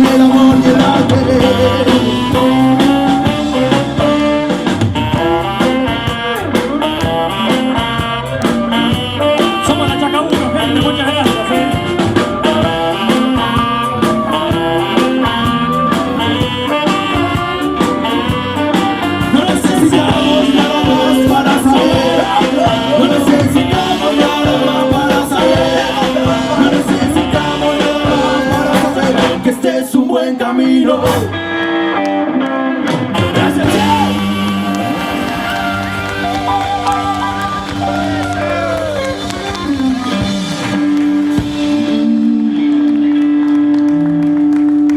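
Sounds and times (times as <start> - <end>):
drums: 0.0 - 30.0, 30.9 - 31.9, 32.8 - 44.9
person singing: 0.0 - 31.4, 32.9 - 40.7, 41.6 - 43.8
bass: 0.0 - 44.9
electric guitar: 0.0 - 44.9.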